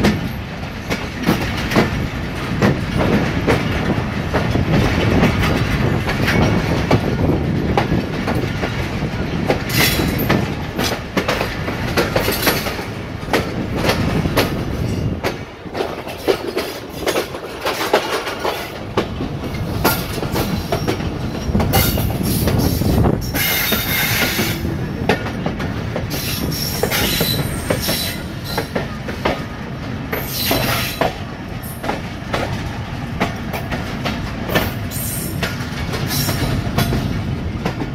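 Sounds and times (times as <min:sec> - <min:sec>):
train wheels clattering: 0:00.0 - 0:37.9.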